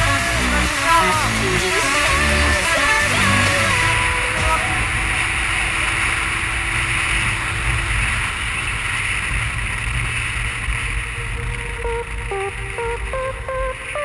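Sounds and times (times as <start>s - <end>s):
motorcycle engine cruising: 0.0s - 14.0s
wind rushing over microphone: 0.0s - 14.0s.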